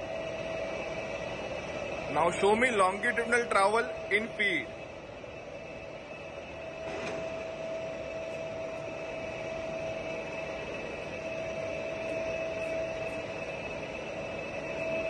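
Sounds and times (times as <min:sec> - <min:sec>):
lathe running with high whine: 0:00.0 - 0:15.0.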